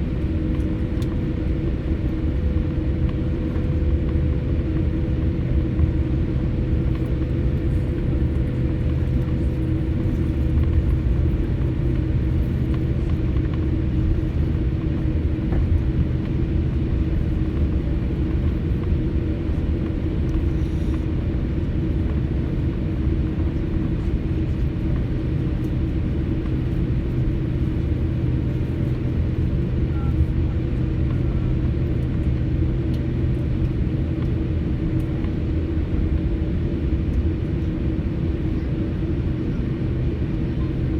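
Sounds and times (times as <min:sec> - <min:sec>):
jet engines idling in cabin: 0:00.0 - 0:40.9.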